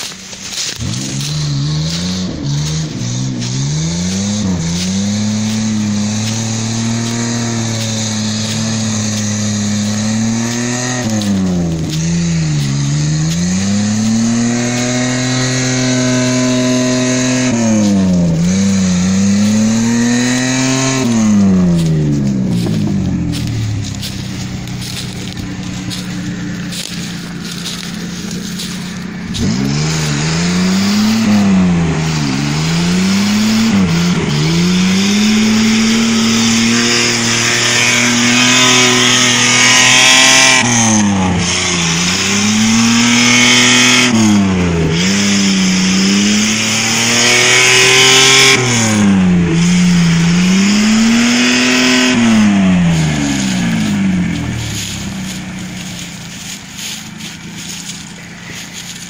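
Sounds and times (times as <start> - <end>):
suv engine revving under load: 0.0 - 59.0
tyres churning through mud: 0.0 - 59.0.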